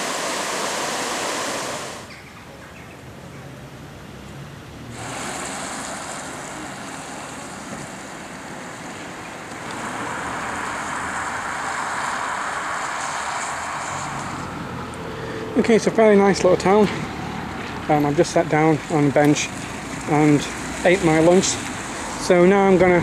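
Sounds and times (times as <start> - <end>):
traffic hiss on wet street: 0.0 - 2.2, 3.0 - 23.0.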